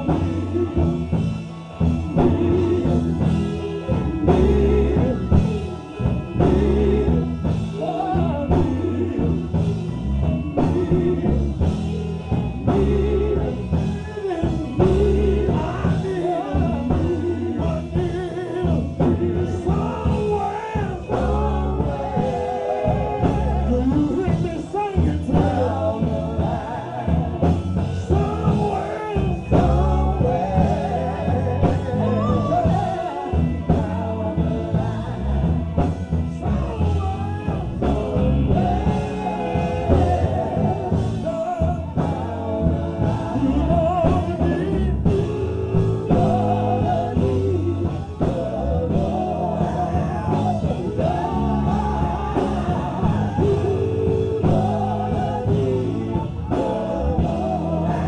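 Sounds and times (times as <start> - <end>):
drums: 0.0 - 58.0
gospel singing: 0.0 - 58.0
pulsing bass line: 0.0 - 58.0.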